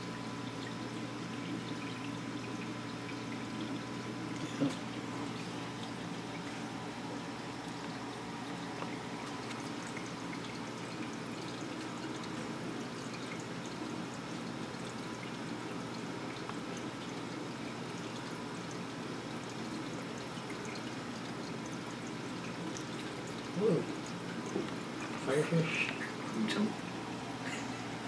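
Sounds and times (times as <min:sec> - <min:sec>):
water trickling and pouring: 0:00.2 - 0:28.0.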